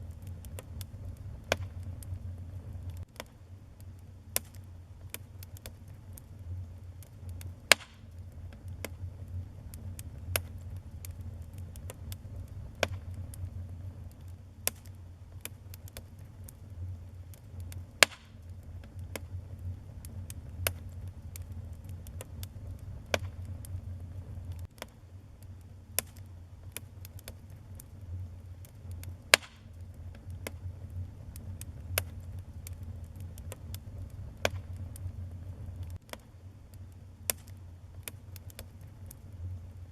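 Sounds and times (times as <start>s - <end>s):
sharp fire pops: 0.0s - 39.6s
wood fire crackling: 0.0s - 39.9s.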